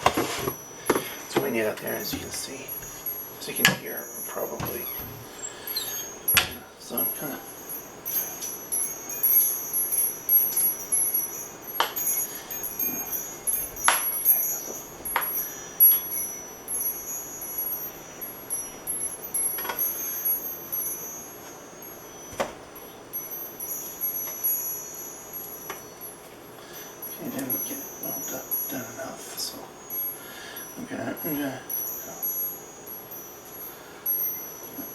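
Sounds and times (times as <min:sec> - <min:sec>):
metal wind chimes ringing: 0:00.0 - 0:34.9.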